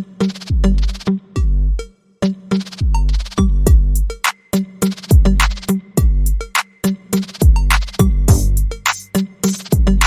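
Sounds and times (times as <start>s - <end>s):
snare and hi-hat hits: 0.2s - 1.1s, 2.2s - 10.0s.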